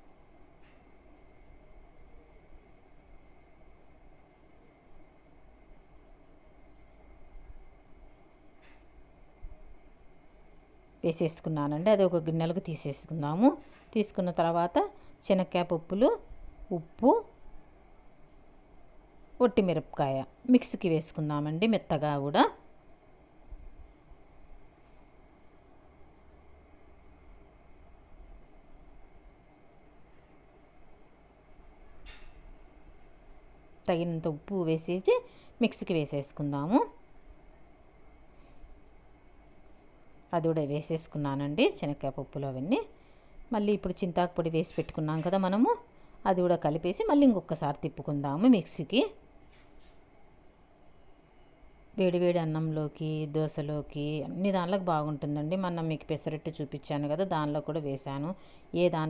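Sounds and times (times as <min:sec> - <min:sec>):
faint insect chirping: 0:00.0 - 0:59.0
low background hum: 0:00.0 - 0:59.0.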